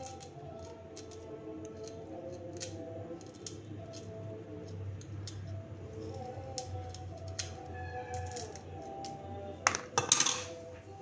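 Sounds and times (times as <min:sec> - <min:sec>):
rustling garlic skins: 0:00.0 - 0:04.2, 0:05.3 - 0:10.8
knife scraping garlic cloves: 0:00.0 - 0:10.6
background music: 0:00.0 - 0:11.0.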